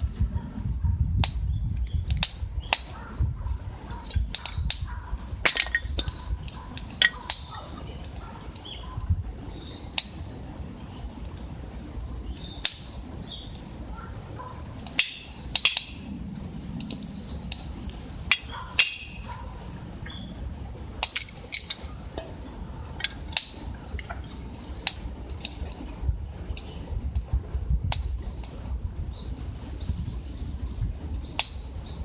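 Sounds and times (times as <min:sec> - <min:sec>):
wood crackling in a stove: 0:00.0 - 0:32.0.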